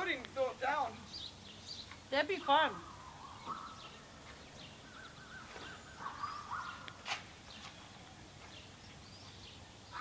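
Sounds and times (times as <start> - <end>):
faint bird chirps: 1.0 - 10.0.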